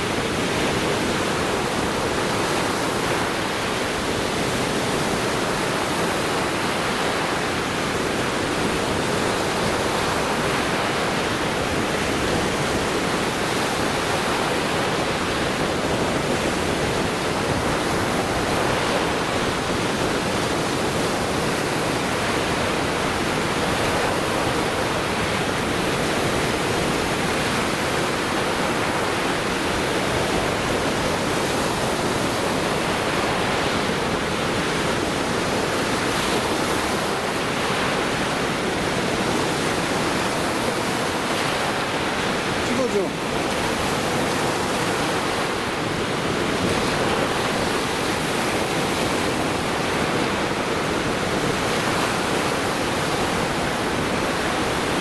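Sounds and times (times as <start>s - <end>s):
waves washing onto shore: 0.0s - 55.0s.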